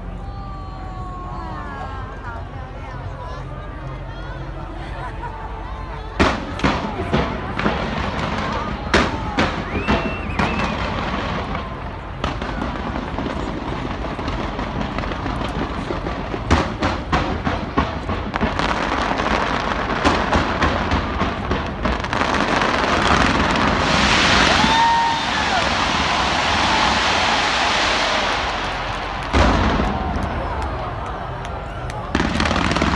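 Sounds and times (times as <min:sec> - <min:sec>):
fireworks bursting and crackling: 0:06.2 - 0:32.9.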